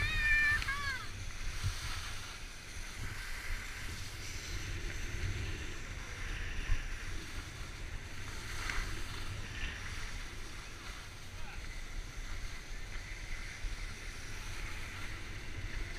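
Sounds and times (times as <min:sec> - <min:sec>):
skis sliding on snow: 0:00.0 - 0:15.9
wind noise on microphone: 0:00.0 - 0:15.9.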